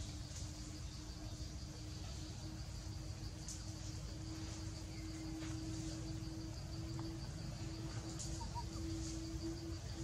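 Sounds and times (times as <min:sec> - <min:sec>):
insects chirring: 0:00.0 - 0:10.0
low hum: 0:00.0 - 0:10.0.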